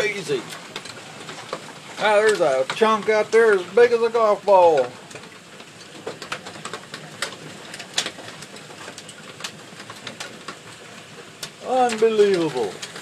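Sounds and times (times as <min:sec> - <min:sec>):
hail falling: 0:00.0 - 0:13.0
hailstones knocking: 0:00.0 - 0:13.0.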